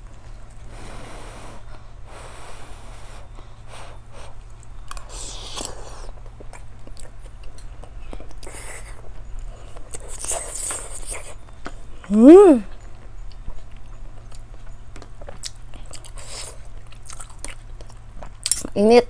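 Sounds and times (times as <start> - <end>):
person chewing food: 1.6 - 18.8.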